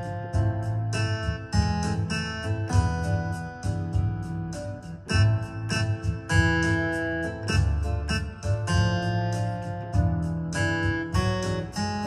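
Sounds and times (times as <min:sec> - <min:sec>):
electronic keyboard bossa nova: 0:00.0 - 0:12.0.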